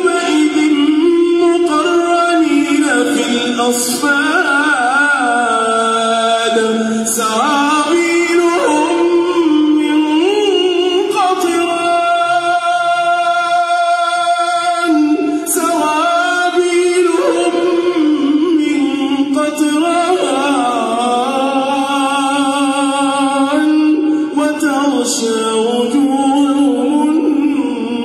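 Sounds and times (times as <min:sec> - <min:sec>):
man chanting into a microphone: 0:00.0 - 0:28.0.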